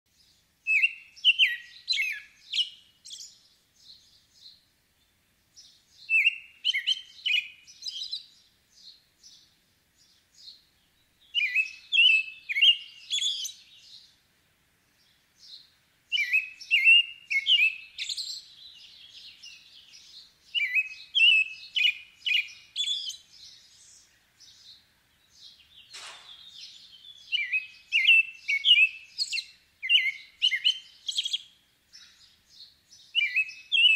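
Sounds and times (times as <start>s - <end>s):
robin singing whistled phrases: 0.6s - 4.6s, 5.6s - 14.1s, 15.0s - 33.9s.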